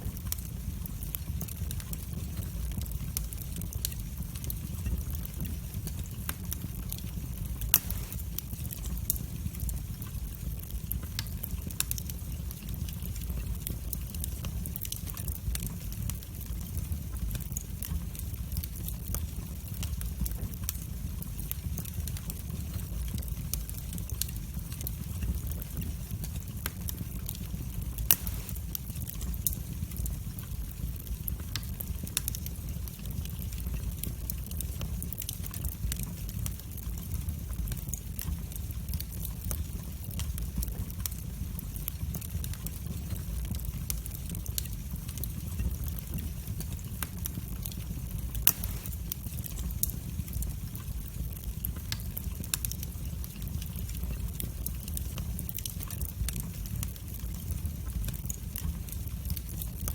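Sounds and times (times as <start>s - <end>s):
fire rumbling: 0.0s - 59.9s
logs crackling and popping: 0.0s - 59.9s.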